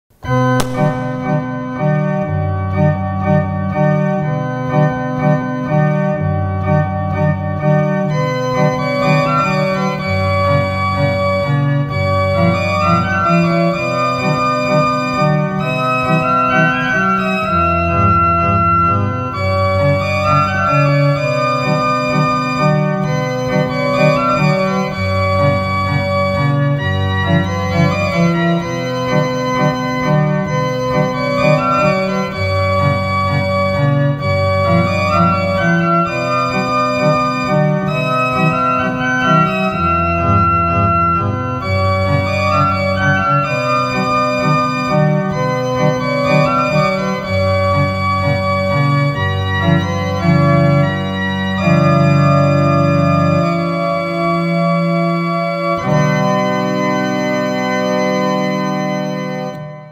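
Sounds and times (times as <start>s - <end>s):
pipe organ playing chords: 0.2s - 59.9s.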